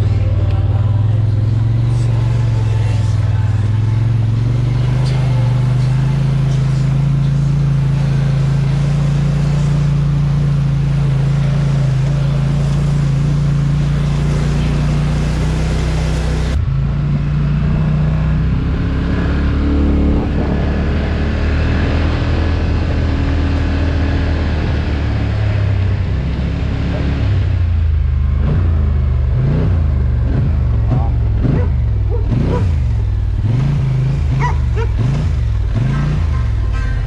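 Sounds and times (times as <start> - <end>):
off-road vehicle engine humming: 0.0 - 37.0.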